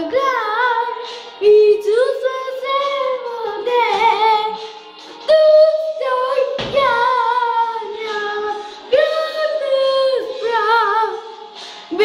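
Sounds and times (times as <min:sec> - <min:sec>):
girl singing with vibrato: 0:00.0 - 0:12.0.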